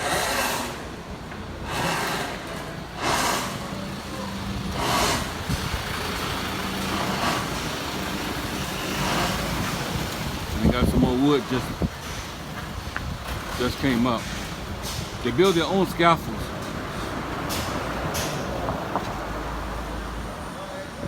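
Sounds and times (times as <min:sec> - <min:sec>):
traffic engine hum: 0:00.0 - 0:21.0
vehicles passing: 0:00.0 - 0:21.0.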